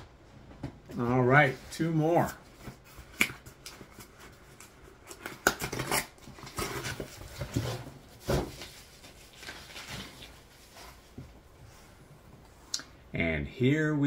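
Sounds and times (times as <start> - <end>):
rustling and scraping: 0.4 - 12.6.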